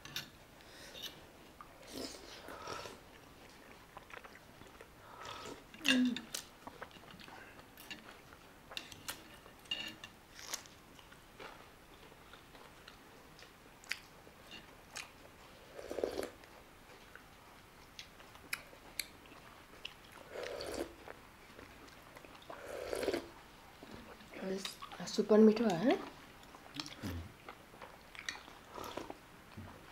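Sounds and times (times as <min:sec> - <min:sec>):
person chewing food: 0:00.6 - 0:25.0, 0:26.0 - 0:29.9.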